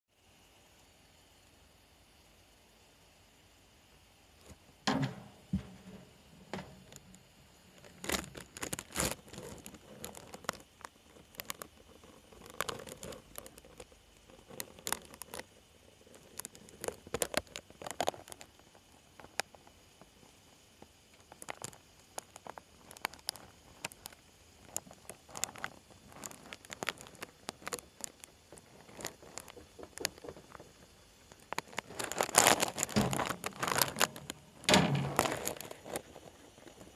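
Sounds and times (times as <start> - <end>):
lizard clicking on dish and gravel: 4.4 - 36.9.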